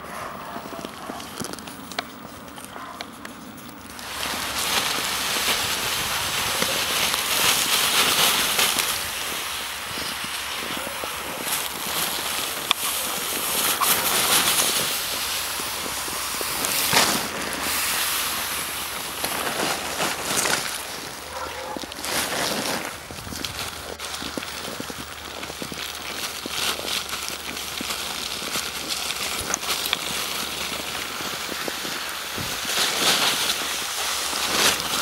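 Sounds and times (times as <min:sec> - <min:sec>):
footsteps crunching snow: 0:00.0 - 0:35.0.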